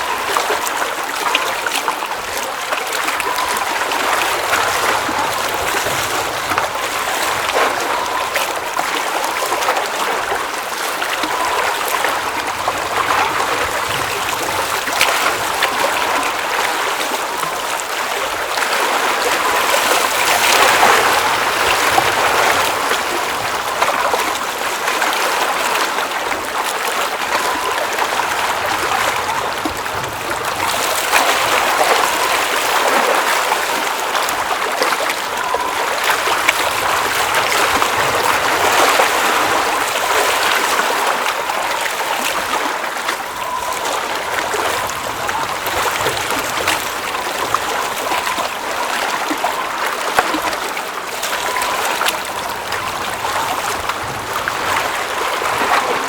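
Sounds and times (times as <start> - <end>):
water flowing and trickling: 0.0 - 56.0
water splashes and drips: 0.0 - 56.0.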